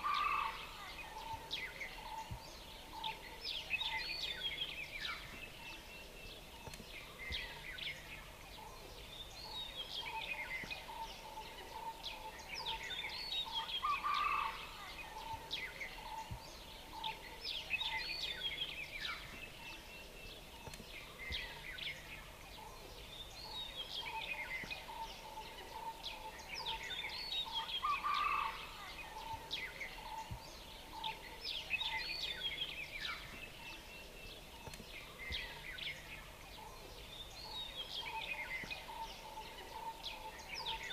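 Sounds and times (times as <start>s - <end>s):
background hiss: 0.0s - 40.9s
small birds chirping: 0.0s - 40.9s
soft repeated low notes: 0.0s - 40.9s.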